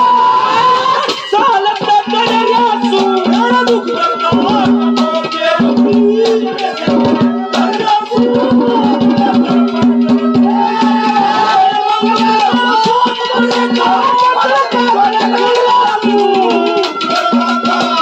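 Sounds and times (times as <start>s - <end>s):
rattling percussion: 0.0s - 18.0s
hand drum beating: 1.2s - 18.0s.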